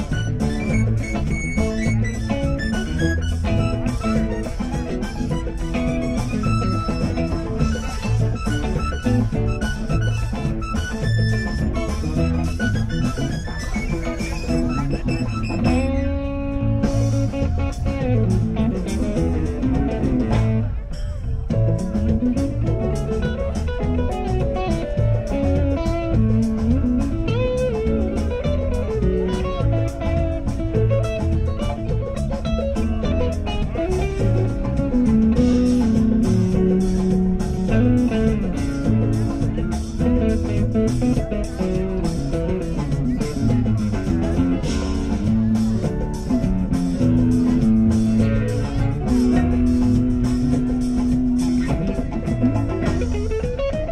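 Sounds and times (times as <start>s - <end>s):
electric guitar: 0.0s - 53.9s
rock band playing: 0.0s - 53.9s.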